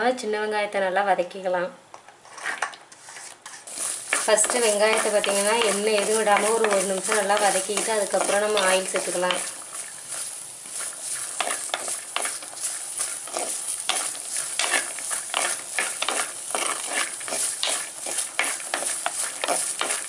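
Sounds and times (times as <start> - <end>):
wooden spatula scraping pan: 2.2 - 20.0.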